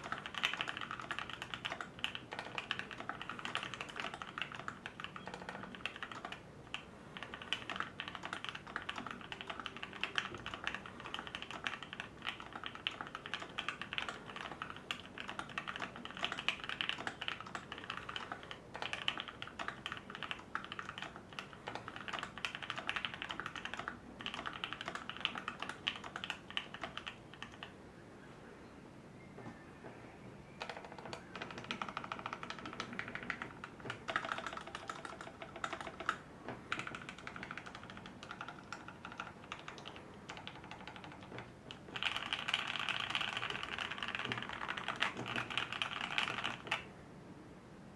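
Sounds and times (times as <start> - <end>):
typing on mechanical keyboard: 0.0 - 27.7, 30.6 - 46.9.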